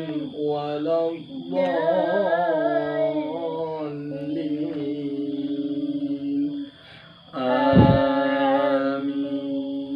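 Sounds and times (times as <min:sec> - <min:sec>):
person chanting: 0:00.0 - 0:06.7, 0:07.3 - 0:09.9.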